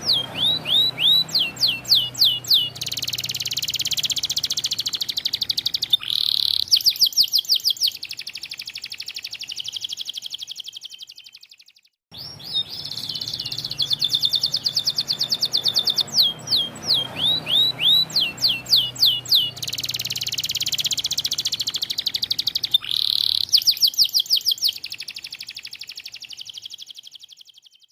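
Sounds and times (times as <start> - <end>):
canary singing trills: 0.0 - 27.9.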